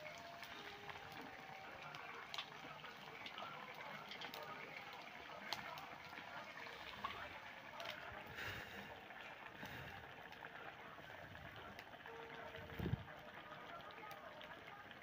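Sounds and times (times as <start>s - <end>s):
curry bubbling in a pot: 0.0s - 15.0s.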